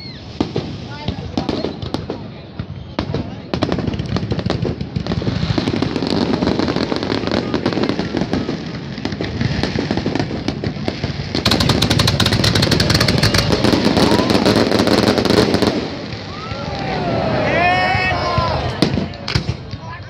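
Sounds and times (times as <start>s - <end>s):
fireworks crackling and bursting: 0.0s - 20.0s.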